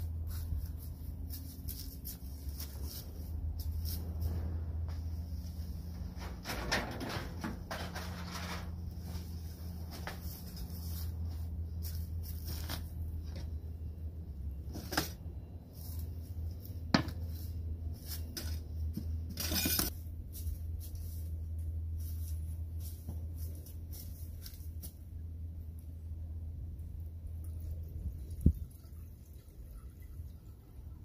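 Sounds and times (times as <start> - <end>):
low background rumble: 0.0 - 19.3, 19.9 - 31.0.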